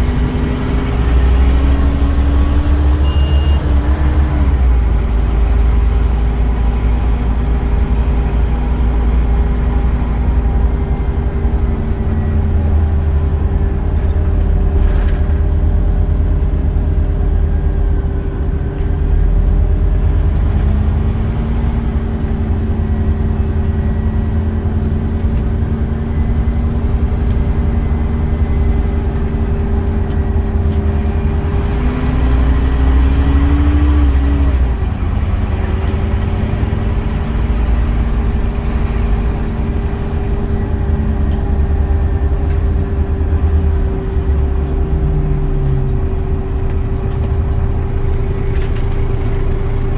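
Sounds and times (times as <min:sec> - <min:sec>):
bus engine rumble: 0:00.0 - 0:49.9
pitched engine whine: 0:00.0 - 0:49.9.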